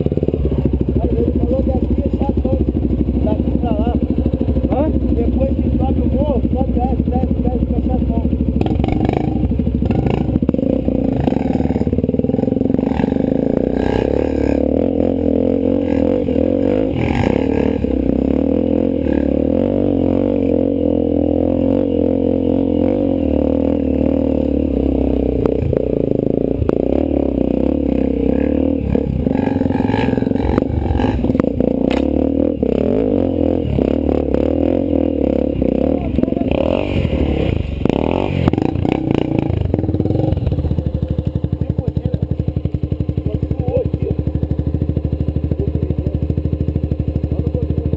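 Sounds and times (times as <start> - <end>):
off-road motorcycle engine running: 0.0 - 47.9.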